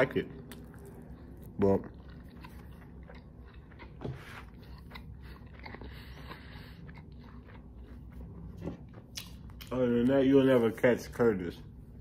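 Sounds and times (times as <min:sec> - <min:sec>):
person chewing food: 0:00.1 - 0:09.9.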